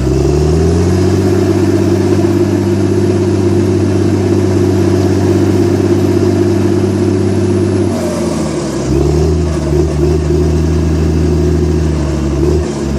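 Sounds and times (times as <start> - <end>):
crawler dozer diesel engine running: 0.0 - 12.9.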